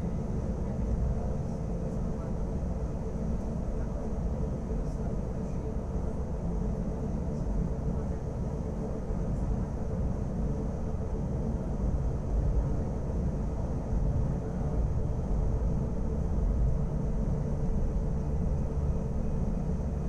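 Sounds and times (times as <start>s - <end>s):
faint motor hum: 0.0s - 20.0s
train low rumble: 0.0s - 20.0s.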